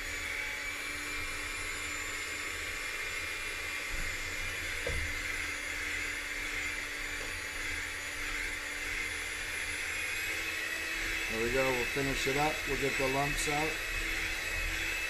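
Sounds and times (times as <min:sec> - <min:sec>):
electric mixer running: 0:00.0 - 0:15.0.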